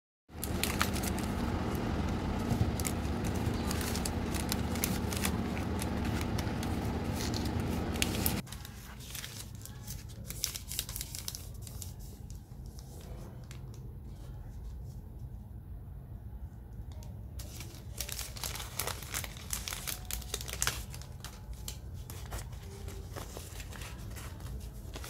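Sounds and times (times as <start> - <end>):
plastic wrappers crinkling: 0.3 - 13.7, 17.4 - 25.0.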